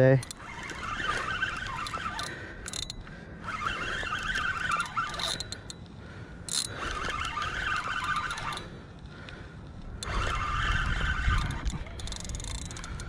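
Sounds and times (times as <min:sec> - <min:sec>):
fishing reel whirring: 0:00.0 - 0:09.0, 0:09.8 - 0:13.0.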